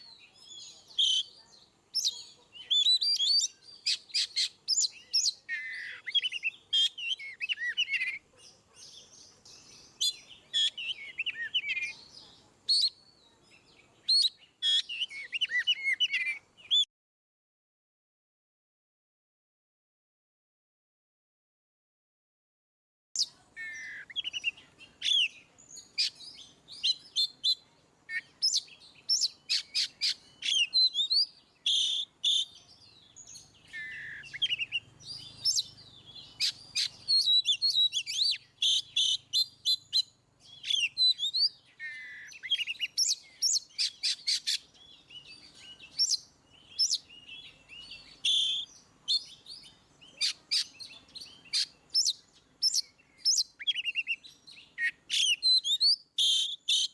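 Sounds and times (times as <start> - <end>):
bird singing varied song: 0.0 - 16.9, 23.2 - 56.9.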